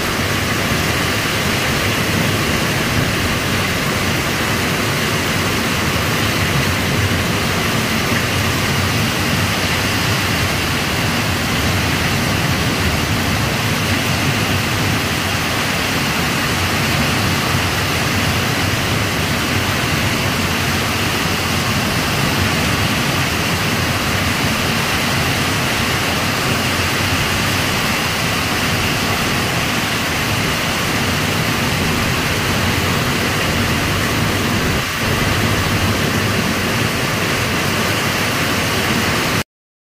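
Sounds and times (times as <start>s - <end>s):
heavy rain downpour: 0.0s - 39.4s.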